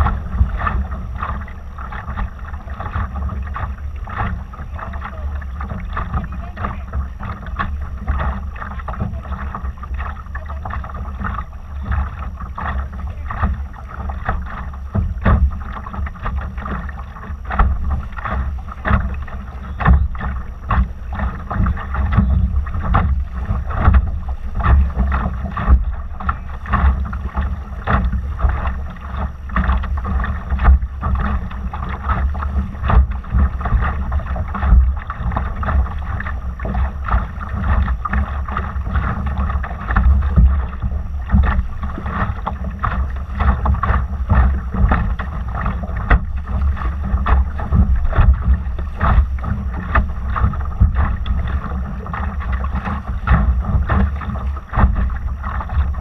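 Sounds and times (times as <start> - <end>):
water slapping against hull: 0.0 - 56.0
wind buffeting microphone: 0.0 - 56.0.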